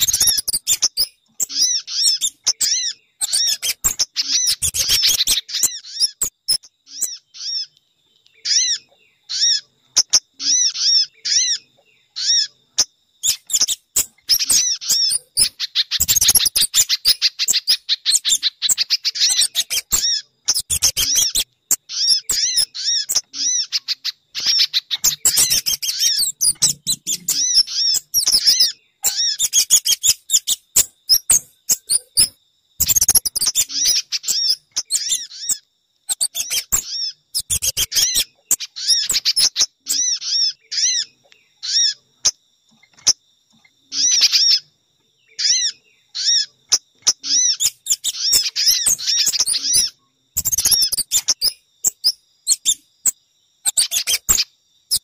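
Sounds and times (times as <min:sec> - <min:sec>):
recorded bird chirps: 0:00.0 - 0:55.0.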